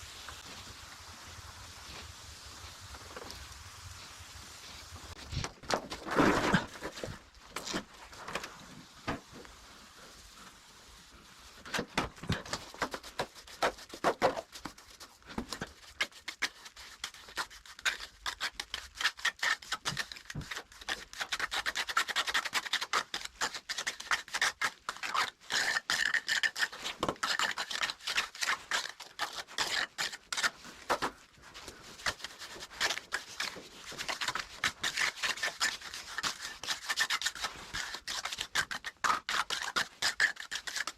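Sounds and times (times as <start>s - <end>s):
trowel scraping wet mortar: 5.1s - 9.3s, 11.6s - 40.9s.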